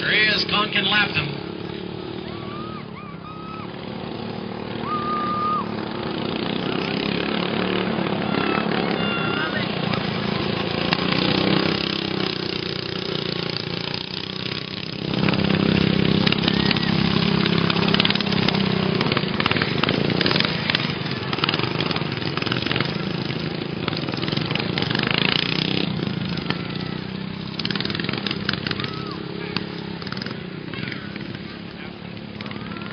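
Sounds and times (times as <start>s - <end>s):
lawn mower engines running: 0.0s - 32.9s.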